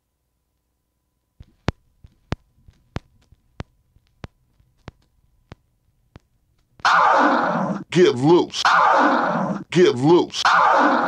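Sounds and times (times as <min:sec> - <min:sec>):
record clicks in steady rhythm: 0:01.4 - 0:11.0.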